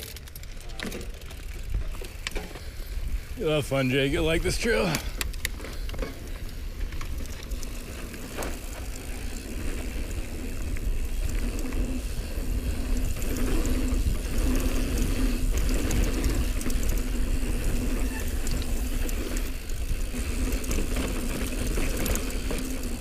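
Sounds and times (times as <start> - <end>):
bike rattling over bumps: 0.0 - 23.0
wind buffeting microphone: 1.5 - 7.9, 9.2 - 23.0.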